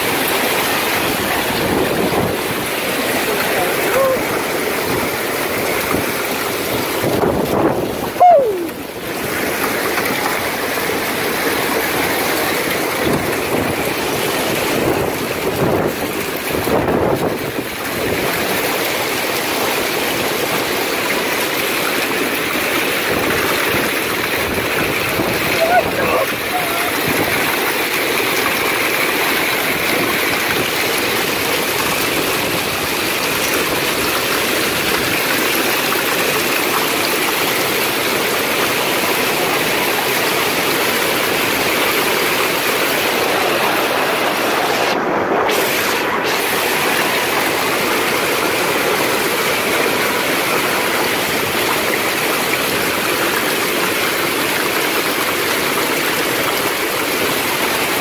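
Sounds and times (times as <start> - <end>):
strong wind: 0.0 - 19.1, 22.4 - 36.0, 37.6 - 53.5
hail and rain on pavement and cars: 0.0 - 58.0.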